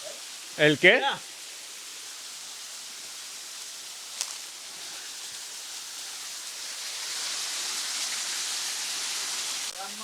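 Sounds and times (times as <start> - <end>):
water rushing down cascade: 0.0 - 10.0.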